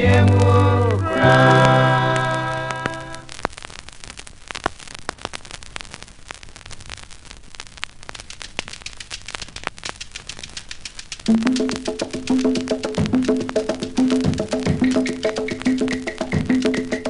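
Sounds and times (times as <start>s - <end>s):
vinyl clicks and pops: 0.0s - 17.0s
vinyl record hiss: 0.0s - 17.0s.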